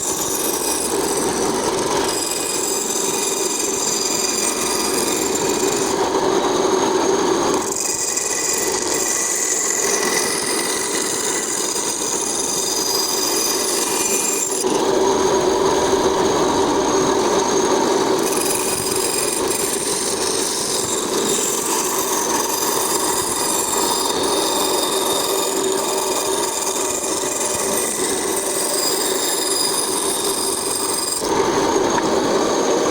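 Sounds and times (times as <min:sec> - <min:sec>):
band saw cutting wood: 0:00.0 - 0:32.9.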